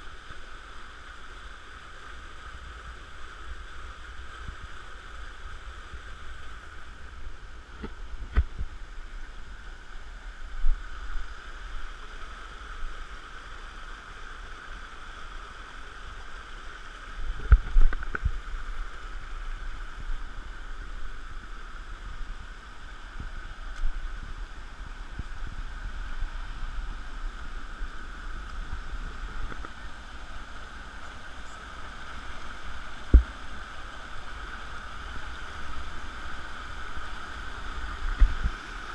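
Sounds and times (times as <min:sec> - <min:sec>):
rushing flowing water: 0:00.0 - 0:38.9.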